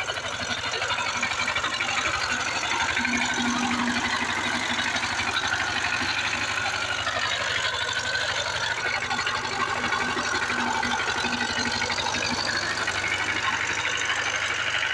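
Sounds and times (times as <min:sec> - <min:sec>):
power tiller diesel engine: 0:00.0 - 0:14.9.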